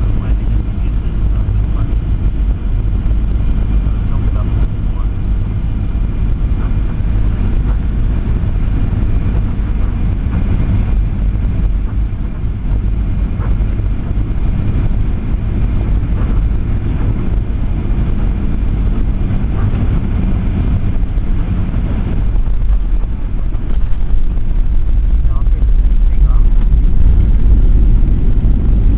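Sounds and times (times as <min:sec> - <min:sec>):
aircraft cabin engine rumble: 0:00.0 - 0:28.9
rushing air: 0:00.0 - 0:28.9.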